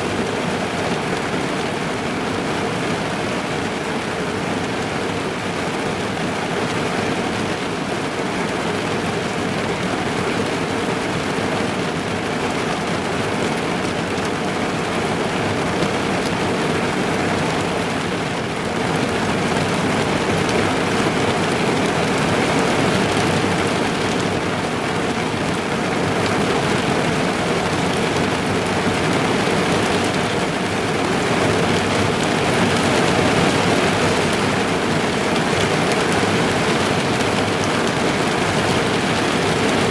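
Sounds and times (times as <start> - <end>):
rain on car body and windows: 0.1 - 39.9.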